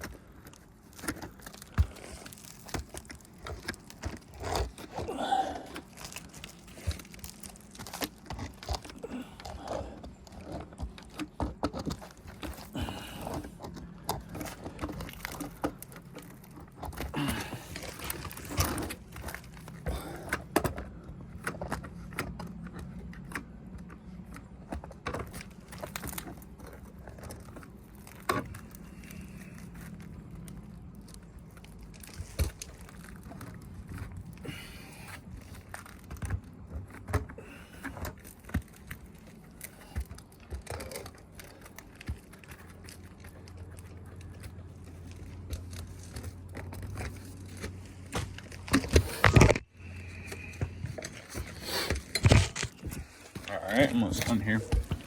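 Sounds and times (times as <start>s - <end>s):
hands crackling roof shingles: 0.0s - 49.7s.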